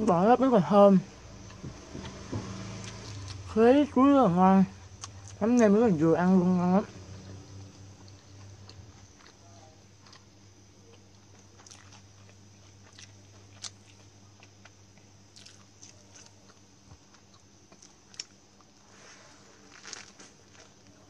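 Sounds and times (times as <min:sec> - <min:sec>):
steady low hum: 0:00.0 - 0:21.0
person chewing food: 0:01.4 - 0:03.5, 0:04.8 - 0:06.4, 0:07.1 - 0:19.0, 0:19.6 - 0:21.0.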